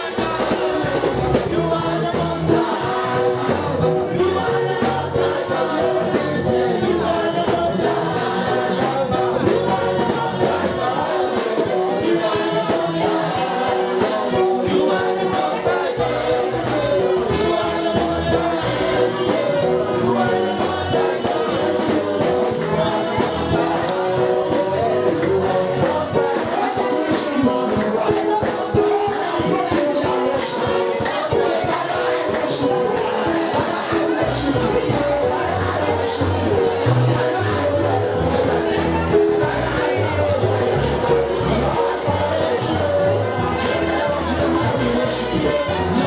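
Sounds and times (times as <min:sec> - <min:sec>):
group singing gospel song: 0:00.0 - 0:46.0
instrumental accompaniment with beat: 0:00.0 - 0:46.0.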